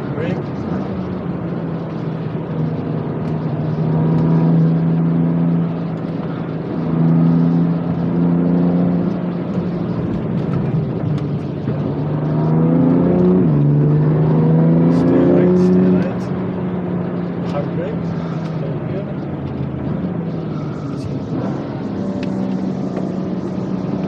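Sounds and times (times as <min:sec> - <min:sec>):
car engine from inside cabin: 0:00.0 - 0:24.0
tyre and road noise: 0:00.0 - 0:24.0.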